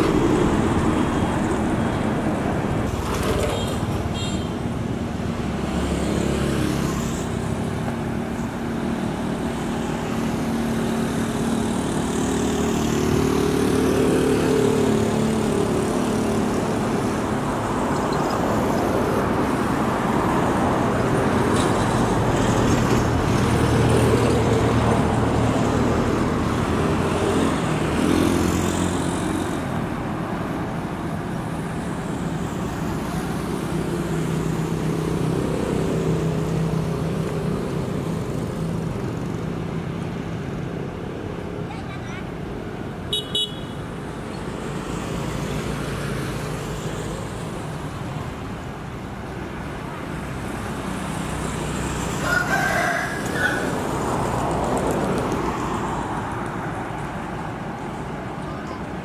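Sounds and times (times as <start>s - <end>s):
diesel engines running: 0.0s - 59.0s
passing road traffic hiss: 0.0s - 59.0s.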